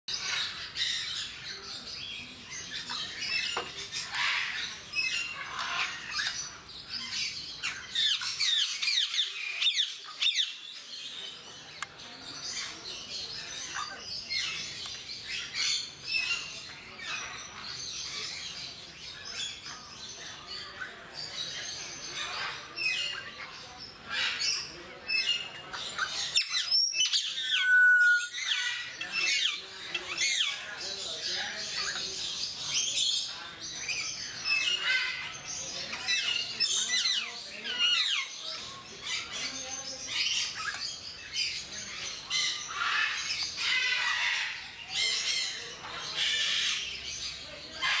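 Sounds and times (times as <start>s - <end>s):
birds chirping and whistling: 0.1s - 48.0s.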